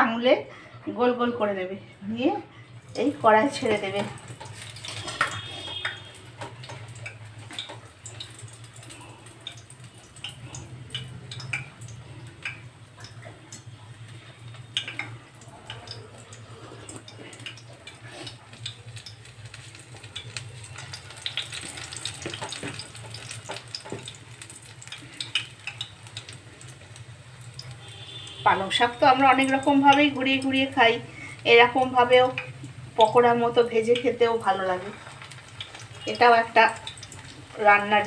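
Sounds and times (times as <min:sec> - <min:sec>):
food frying in hot oil: 0:02.1 - 0:38.0
crackles and sizzles: 0:02.8 - 0:38.0.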